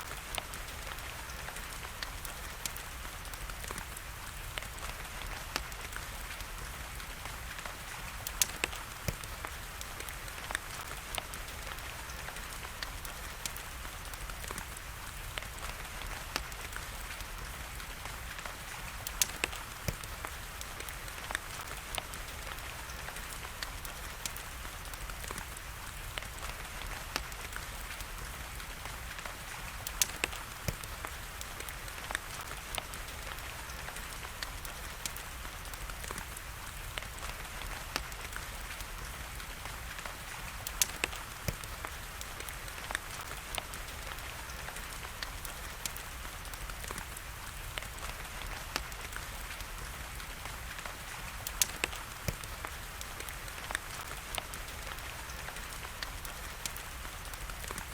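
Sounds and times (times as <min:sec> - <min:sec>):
rain hiss: 0:00.0 - 0:57.9
wood fire crackling and popping: 0:00.0 - 0:57.9.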